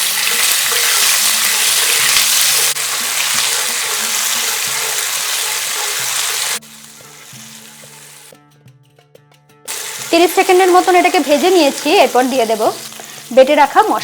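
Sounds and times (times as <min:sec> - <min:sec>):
paste sizzling in hot oil: 0:00.0 - 0:08.3, 0:09.7 - 0:14.0.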